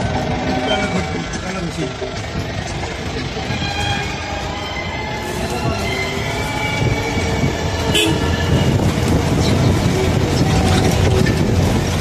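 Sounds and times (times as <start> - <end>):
vehicle rumbling and rattling: 0.0 - 12.0.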